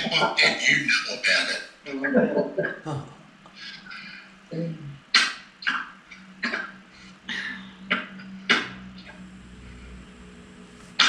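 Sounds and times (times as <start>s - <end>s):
steady low hum: 1.8s - 11.0s.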